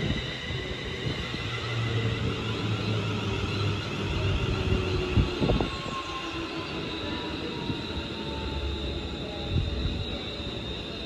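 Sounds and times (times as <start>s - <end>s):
electric train hum and wheel rumble: 0.0s - 11.0s.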